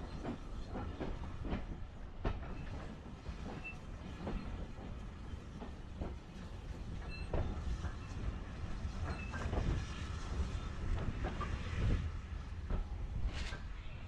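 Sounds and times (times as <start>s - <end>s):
train carriage rumble: 0.0s - 14.0s.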